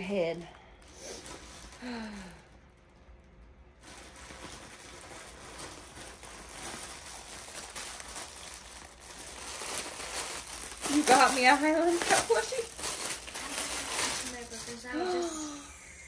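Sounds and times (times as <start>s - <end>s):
packaging rustling and crinkling: 0.0s - 15.3s.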